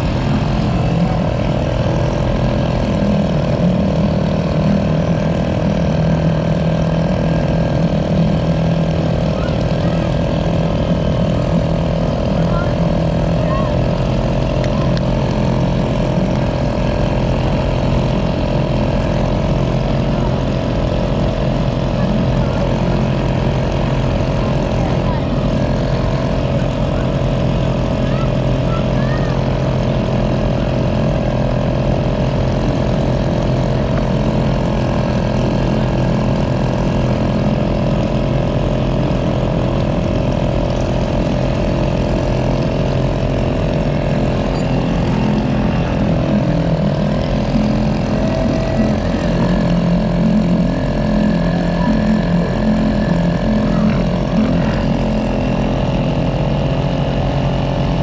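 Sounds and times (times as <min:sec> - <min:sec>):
boat motor humming: 0:00.0 - 0:58.0.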